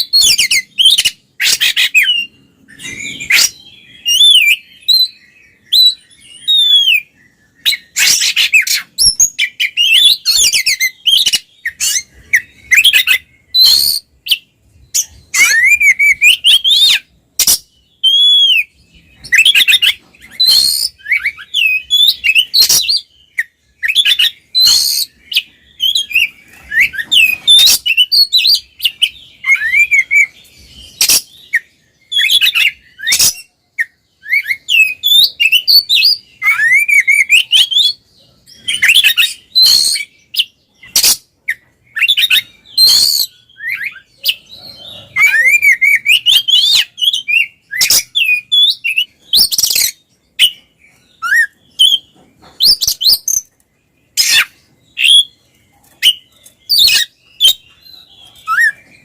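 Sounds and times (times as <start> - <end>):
magpie-robin singing: 0.0 - 59.0.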